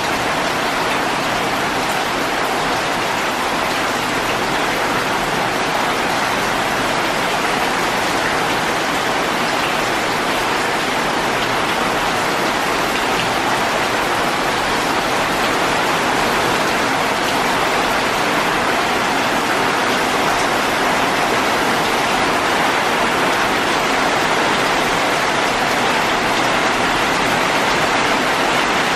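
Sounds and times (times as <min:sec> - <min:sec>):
heavy rain on leaves: 0:00.0 - 0:28.9.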